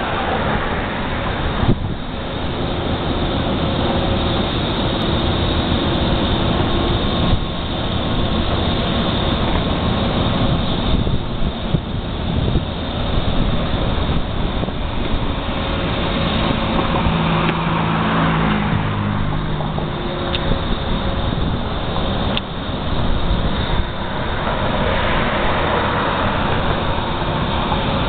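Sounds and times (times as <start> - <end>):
low traffic rumble: 0.0 - 28.0
vehicle engine hum: 0.0 - 28.0.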